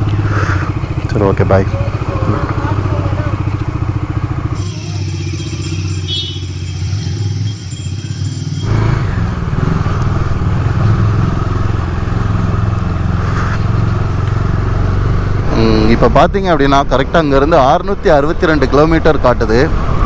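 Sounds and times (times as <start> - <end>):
motorcycle engine running: 0.0 - 16.1
road and wind noise: 0.0 - 20.0.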